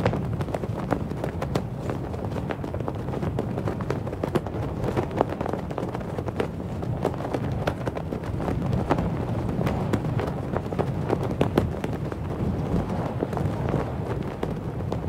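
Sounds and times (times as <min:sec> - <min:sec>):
flag flapping: 0:00.0 - 0:15.0
low wind rumble: 0:00.0 - 0:15.0.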